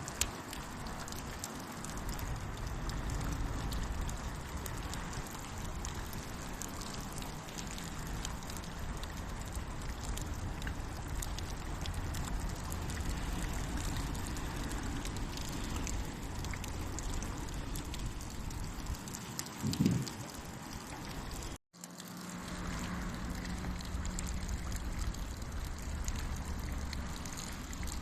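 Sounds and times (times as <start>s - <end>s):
drips: 0.0s - 28.0s
steady rain hiss: 0.0s - 28.0s
campfire crackling: 0.1s - 28.0s.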